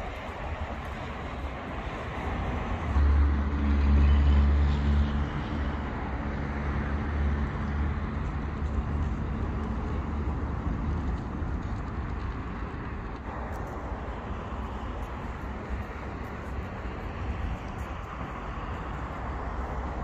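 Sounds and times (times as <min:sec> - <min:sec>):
city traffic noise: 0:00.0 - 0:20.0
low engine hum: 0:00.0 - 0:20.0.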